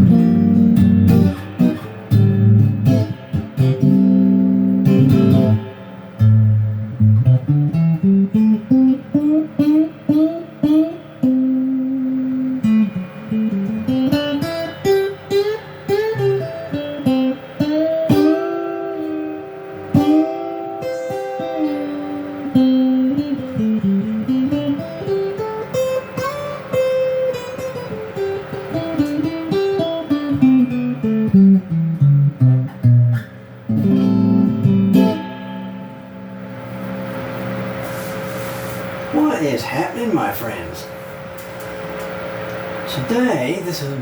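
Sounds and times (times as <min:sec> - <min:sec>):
electric guitar lead melody: 0:00.0 - 0:39.1.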